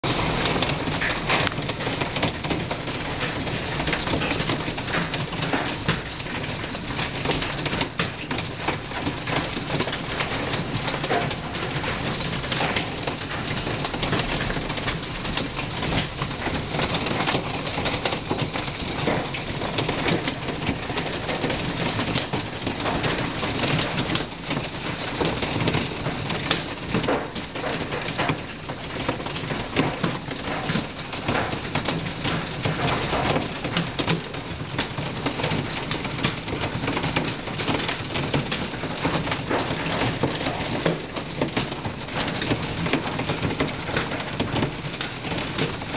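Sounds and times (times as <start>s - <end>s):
hail clattering on a yard and house: 0.0s - 45.9s.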